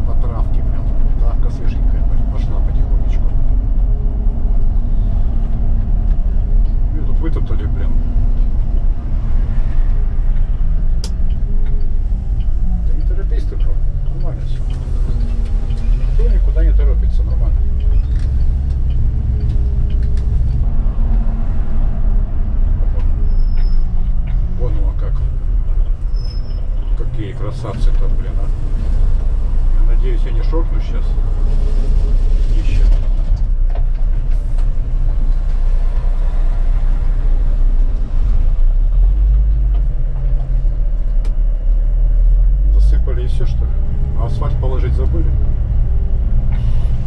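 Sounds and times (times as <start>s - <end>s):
bus engine droning: 0.0s - 47.0s.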